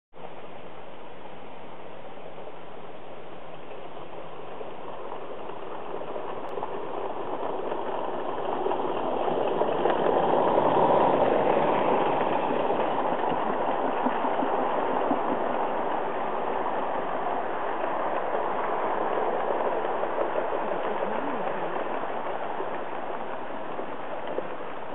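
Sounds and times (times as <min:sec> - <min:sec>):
wagons rolling over rails: 0:02.4 - 0:24.9.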